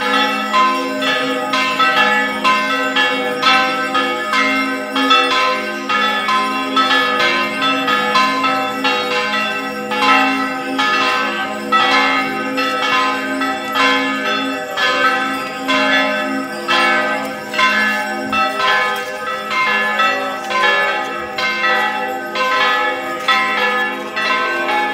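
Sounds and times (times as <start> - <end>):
church bells ringing: 0.0 - 24.9.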